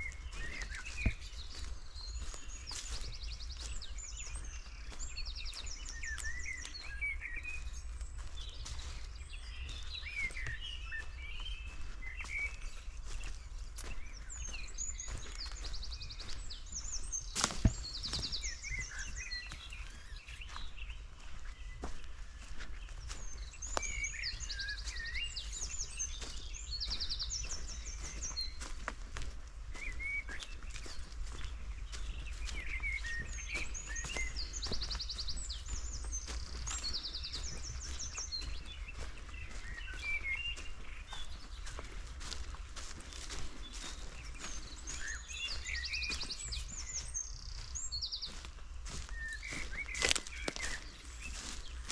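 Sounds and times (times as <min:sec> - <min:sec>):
footsteps crunching on forest floor: 0:00.0 - 0:51.9
songbirds chirping: 0:00.0 - 0:51.9.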